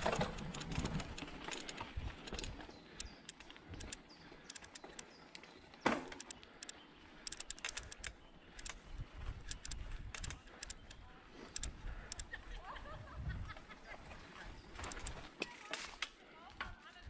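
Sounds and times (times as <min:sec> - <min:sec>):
bike clicking and rattling on dirt: 0:00.0 - 0:12.5, 0:13.4 - 0:17.0.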